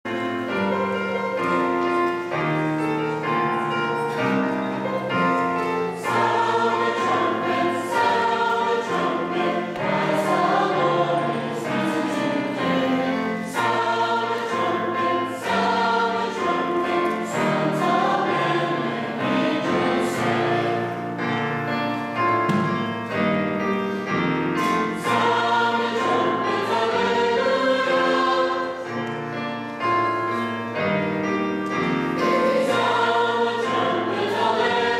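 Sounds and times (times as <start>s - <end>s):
choir singing: 0.1s - 34.9s.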